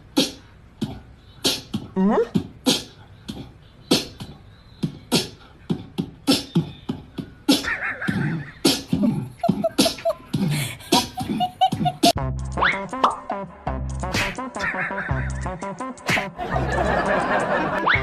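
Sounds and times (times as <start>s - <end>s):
beatbox vocal percussion: 0.0s - 16.4s.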